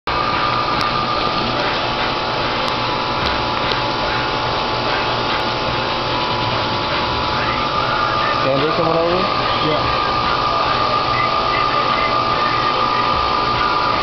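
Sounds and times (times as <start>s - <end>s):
motor or fan whirring: 0.0s - 14.0s.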